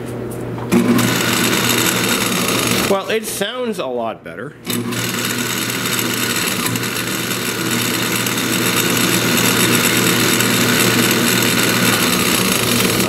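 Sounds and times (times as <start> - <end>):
drill press motor running: 0.7 - 3.3, 4.6 - 13.0.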